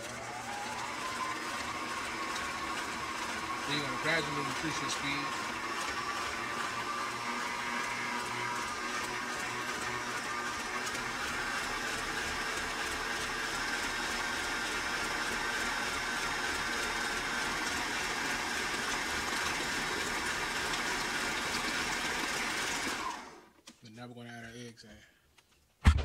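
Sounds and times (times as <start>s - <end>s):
stand mixer whirring: 0.0s - 23.5s.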